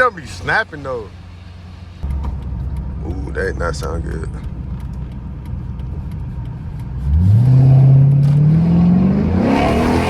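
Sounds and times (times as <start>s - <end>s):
car engine accelerating: 1.4s - 10.0s.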